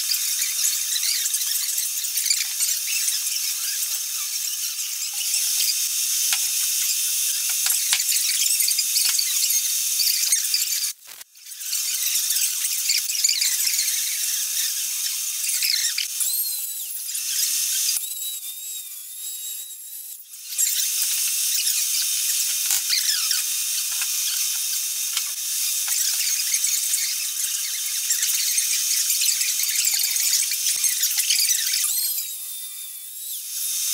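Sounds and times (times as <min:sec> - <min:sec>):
milling cutter screeching: 0:00.0 - 0:33.4.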